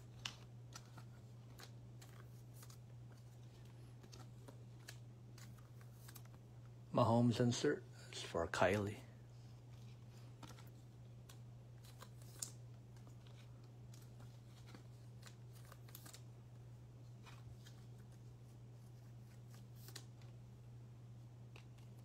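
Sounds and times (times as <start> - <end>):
trading cards rustling: 0.0 - 6.8, 8.2 - 20.4
steady low hum: 0.0 - 22.0.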